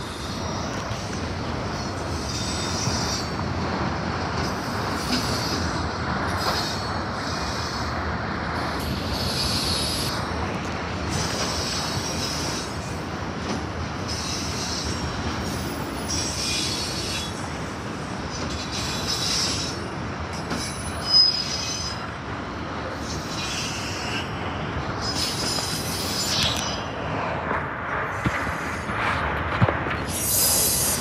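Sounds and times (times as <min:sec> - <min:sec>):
wheels squealing on rails: 0:00.0 - 0:27.0, 0:30.0 - 0:31.0
freight train rolling: 0:00.0 - 0:31.0.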